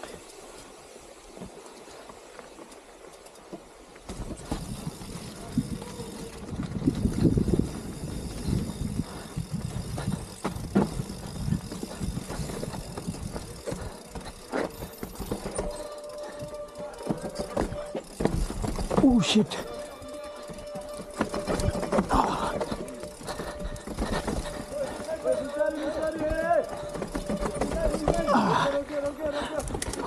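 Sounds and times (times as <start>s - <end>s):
bike tyres rumbling on trail: 0.0s - 30.0s
bike clattering over bumps: 3.4s - 30.0s.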